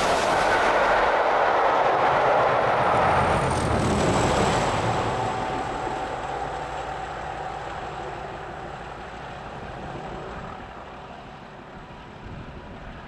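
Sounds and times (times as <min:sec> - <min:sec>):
diesel locomotive engine growling: 0:00.0 - 0:13.0.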